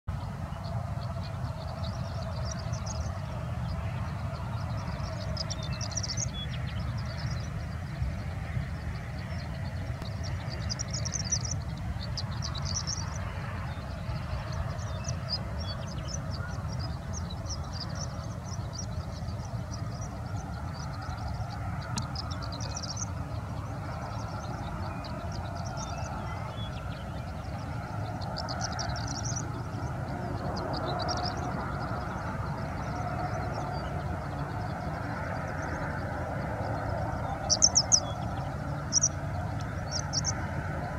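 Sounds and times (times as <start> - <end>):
steady low rumble: 0.1 - 40.9.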